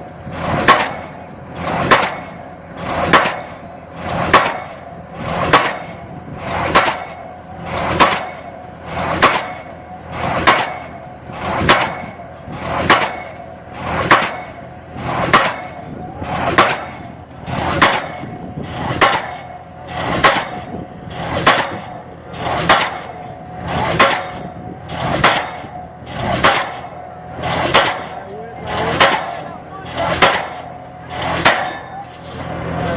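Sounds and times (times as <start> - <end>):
pile driver hammer striking: 0.3 - 32.5.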